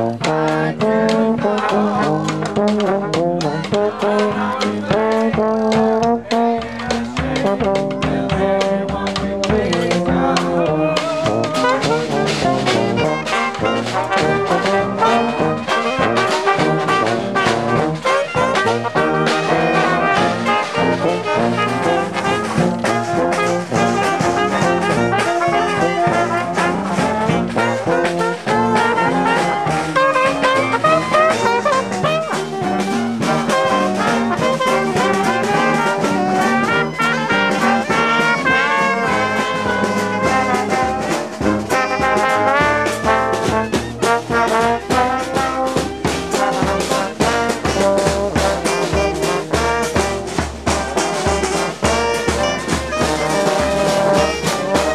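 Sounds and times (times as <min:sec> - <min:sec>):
brass band playing a march: 0:00.0 - 0:54.9
steady drum beat: 0:00.0 - 0:54.9.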